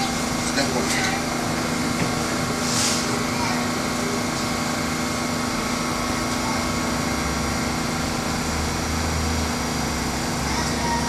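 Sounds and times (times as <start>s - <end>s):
subway train equipment humming: 0.0s - 11.0s.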